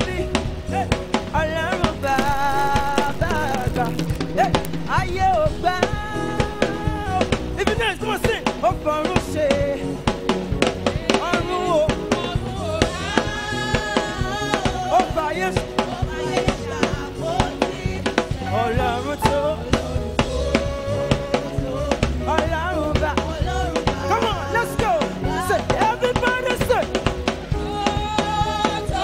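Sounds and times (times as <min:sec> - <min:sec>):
backing vocalists singing: 0:00.0 - 0:29.0
band playing: 0:00.0 - 0:29.0
drum kit beat: 0:00.0 - 0:29.0
lead singer: 0:00.0 - 0:29.0.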